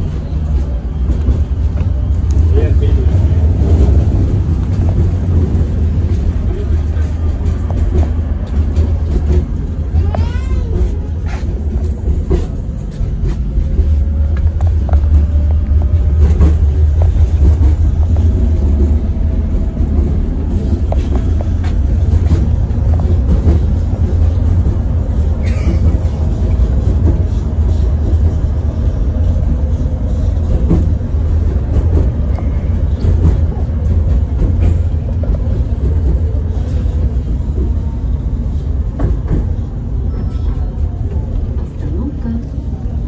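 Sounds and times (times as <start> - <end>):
tram wheels rumbling on rails: 0.0 - 43.0.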